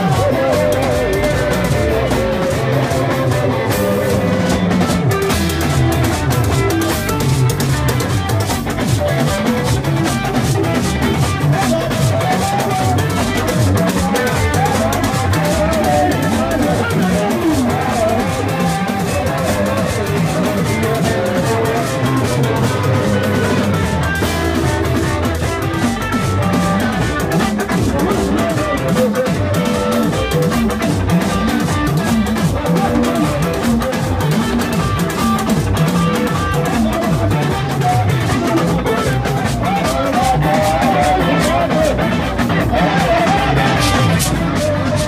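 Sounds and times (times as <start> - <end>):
bass line: 0.0 - 45.0
drums: 0.0 - 45.0
electric guitar playing: 0.0 - 45.0.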